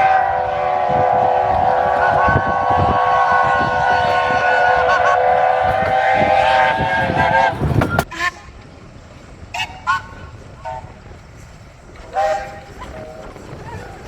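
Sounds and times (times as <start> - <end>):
steam locomotive whistles chord: 0.0 - 14.0.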